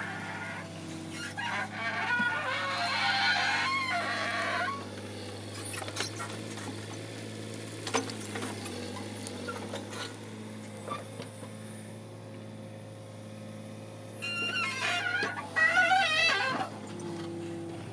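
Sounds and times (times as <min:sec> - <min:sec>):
diesel engine humming: 0:00.0 - 0:17.9.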